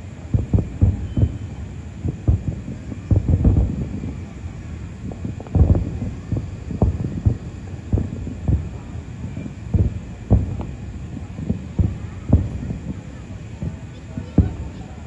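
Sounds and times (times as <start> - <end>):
continuous low rumble: 0.0 - 15.0
distant firework booms: 0.0 - 15.0.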